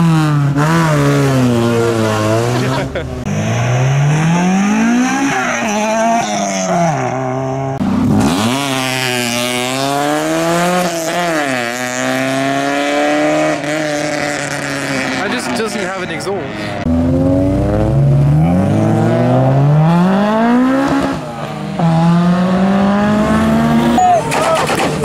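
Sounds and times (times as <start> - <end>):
car engines accelerating hard: 0.0 - 25.0.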